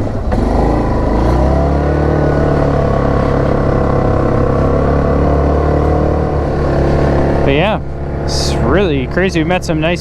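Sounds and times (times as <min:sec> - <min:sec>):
atv engine pulling away: 0:00.0 - 0:10.0.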